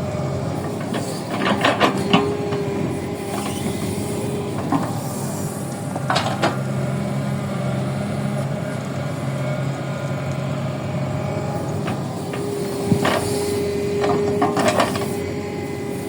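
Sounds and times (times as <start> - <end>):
excavator motor hum: 0.0 - 16.0.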